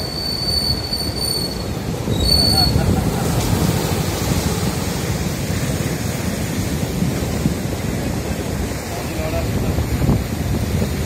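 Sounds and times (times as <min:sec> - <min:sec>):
wind buffeting microphone: 0:00.5 - 0:11.0.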